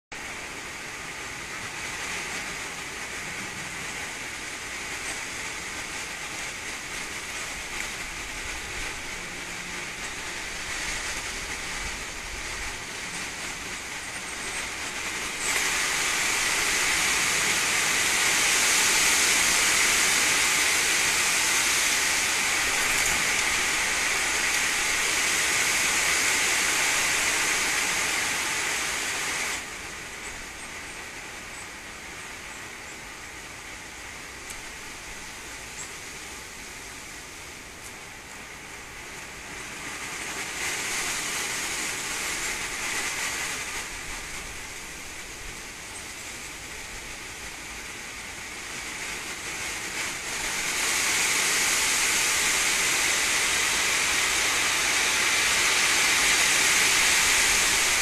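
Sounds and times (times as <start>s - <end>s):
steady hiss: 0.1s - 58.0s.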